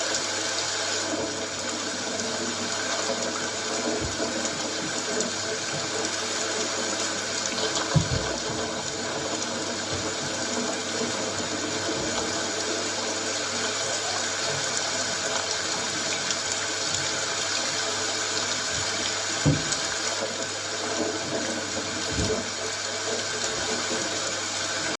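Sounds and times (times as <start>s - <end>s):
steady rain hissing: 0.0s - 25.0s.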